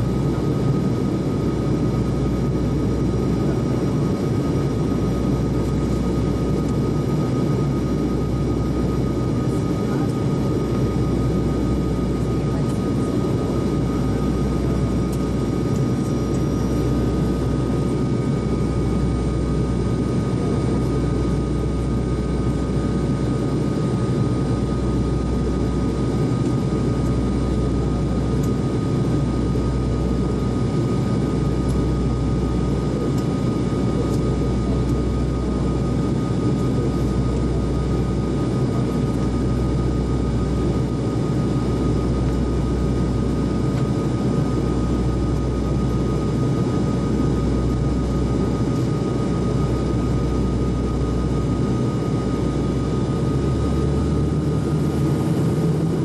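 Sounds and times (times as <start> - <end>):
airliner engine and propeller drone: 0.0 - 56.0
steady whine: 0.0 - 56.0.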